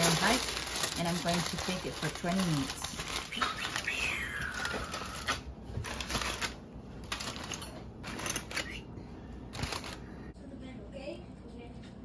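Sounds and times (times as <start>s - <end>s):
aluminium foil crinkling: 0.0s - 8.8s, 9.5s - 10.3s.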